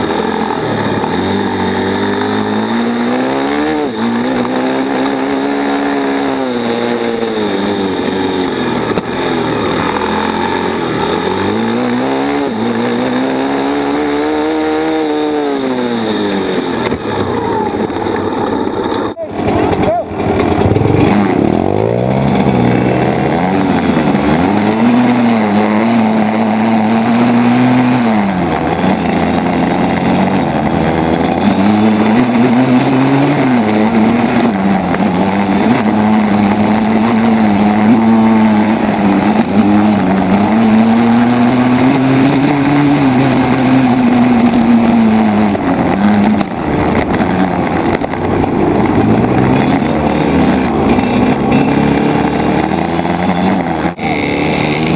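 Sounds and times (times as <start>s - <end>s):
dirt bike engine revving: 0.0s - 54.9s
wind and road noise: 0.0s - 54.9s.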